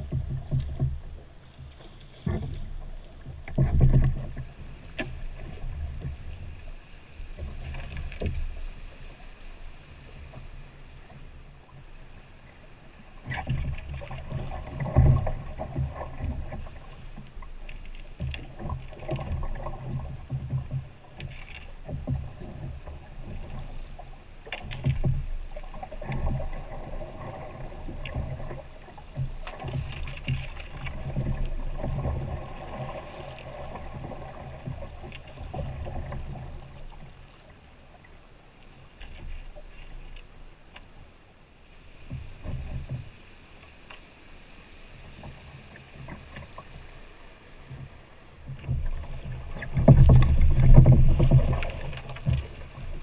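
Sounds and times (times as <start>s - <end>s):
knocks and bumps on canoe: 0.0s - 9.0s, 13.2s - 38.0s, 42.0s - 43.2s, 45.1s - 53.0s
water rushing against a hull: 0.0s - 53.0s.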